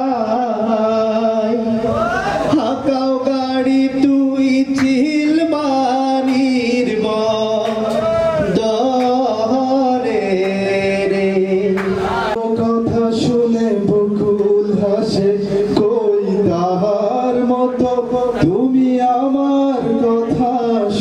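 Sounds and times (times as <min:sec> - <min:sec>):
man singing through loudspeaker: 0:00.0 - 0:21.0.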